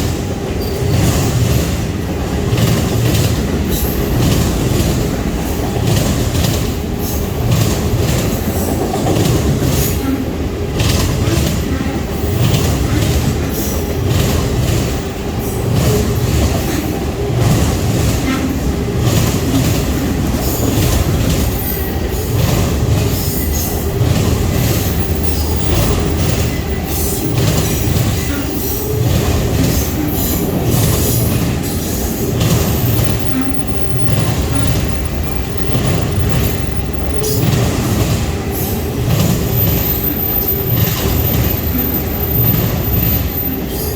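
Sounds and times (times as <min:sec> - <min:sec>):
train rumble: 0:00.0 - 0:43.9
train wheels clattering over rail joints: 0:00.0 - 0:43.9.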